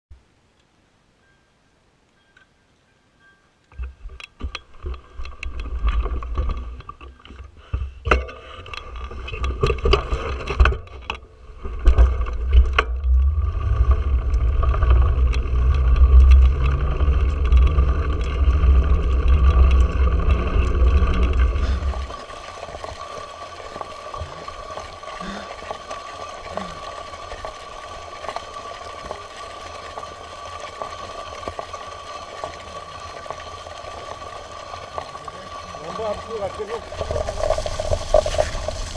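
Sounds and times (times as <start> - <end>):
bike rattling over bumps: 3.7 - 38.9.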